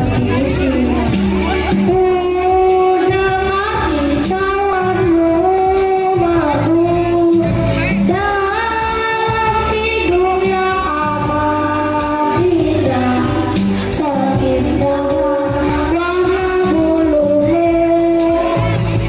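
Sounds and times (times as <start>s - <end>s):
backing music track: 0.0s - 19.0s
children singing together: 0.0s - 19.0s.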